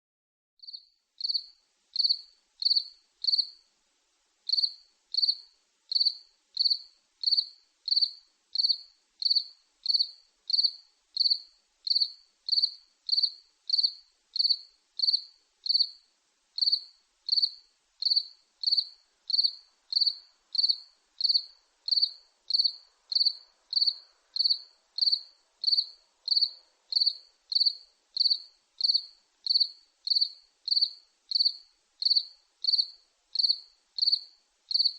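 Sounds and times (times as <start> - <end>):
cricket chirping: 0.6 - 3.7, 4.5 - 34.9.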